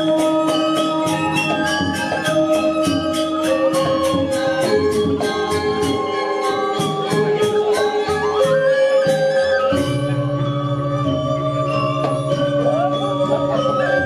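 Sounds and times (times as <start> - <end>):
gamelan music: 0.0 - 14.0.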